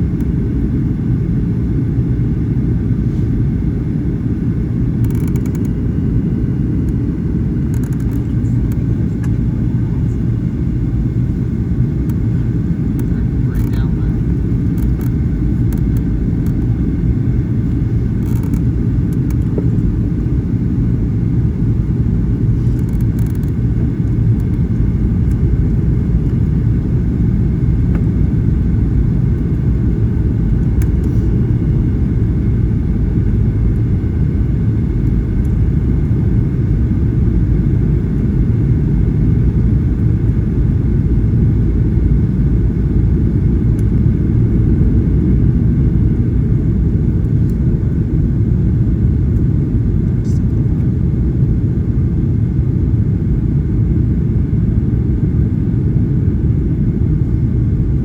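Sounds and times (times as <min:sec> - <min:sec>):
jet airliner cabin rumble: 0:00.0 - 0:58.0.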